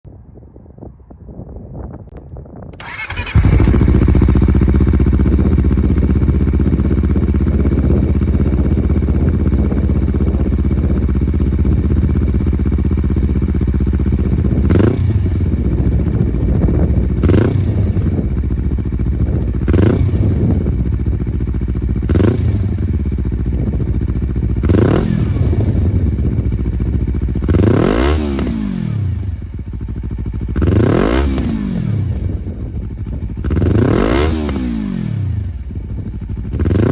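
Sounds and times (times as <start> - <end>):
motorcycle engine idling and revving: 2.7 - 36.9.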